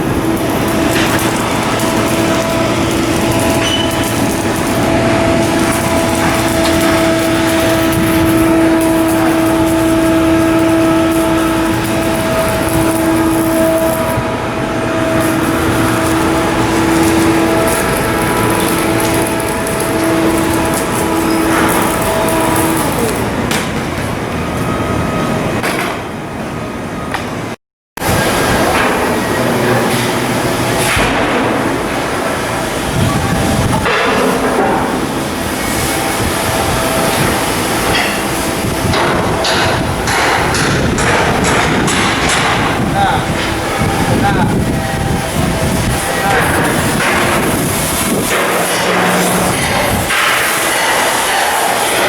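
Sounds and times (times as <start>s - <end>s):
constant droning hum: 0.0s - 52.0s
industrial din: 0.0s - 52.0s
machinery running: 0.0s - 52.0s.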